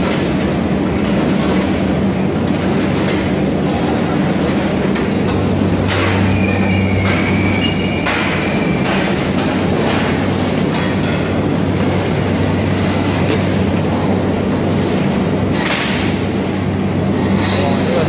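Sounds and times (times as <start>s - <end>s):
conveyor machine noise: 0.0s - 18.0s.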